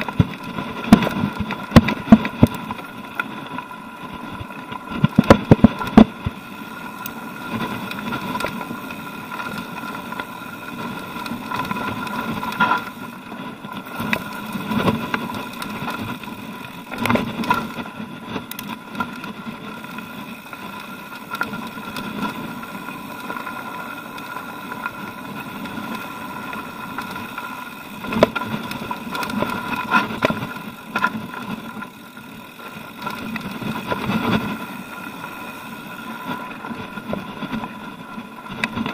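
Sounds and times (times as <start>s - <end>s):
bike rattling: 0.0s - 38.9s
bike tyres crunching on stones: 0.0s - 38.9s.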